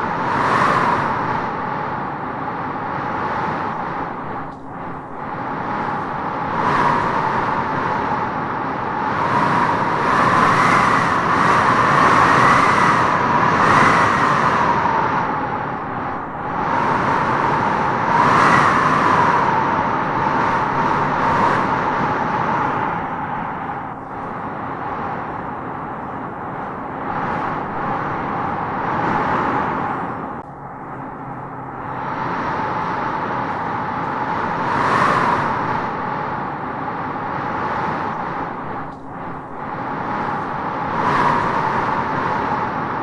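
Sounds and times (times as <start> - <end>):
wind gusting with howling whistle: 0.0 - 43.0.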